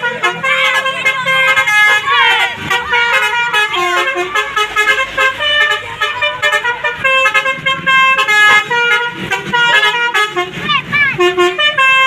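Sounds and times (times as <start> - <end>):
multi-tone bus horn melody: 0.0 - 12.0.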